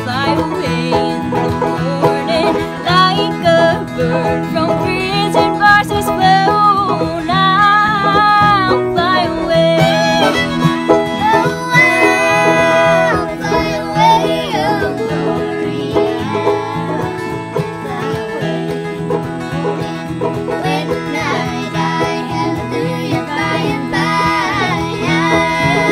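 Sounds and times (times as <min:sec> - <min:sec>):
fiddle: 0:00.0 - 0:25.9
girls singing: 0:00.0 - 0:25.9
strummed guitar: 0:00.0 - 0:25.9.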